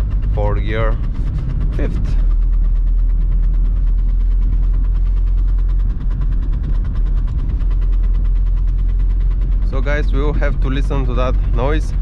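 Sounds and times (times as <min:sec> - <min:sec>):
diesel engine drone in car cabin: 0:00.0 - 0:12.0
fast even ticking: 0:00.0 - 0:12.0.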